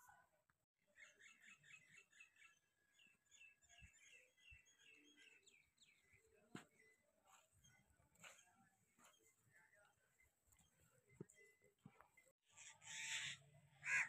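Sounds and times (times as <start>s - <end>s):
small birds chirping: 0.9s - 13.0s.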